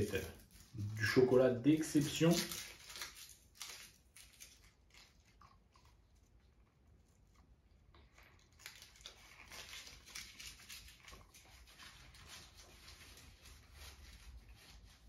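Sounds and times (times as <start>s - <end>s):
foil wrapper crinkling: 0.0s - 6.2s, 8.1s - 15.0s.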